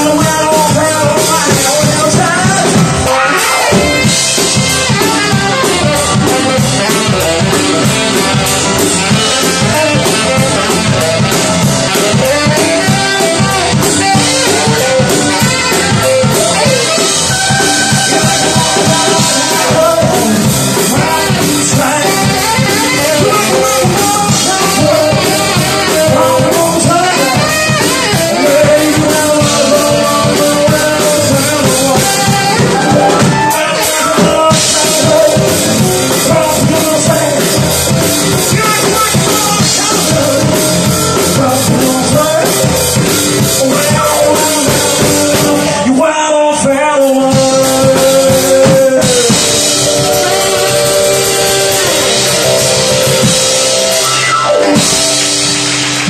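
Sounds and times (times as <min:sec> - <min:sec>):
man singing: 0:00.0 - 0:55.2
live rock band: 0:00.0 - 0:56.0.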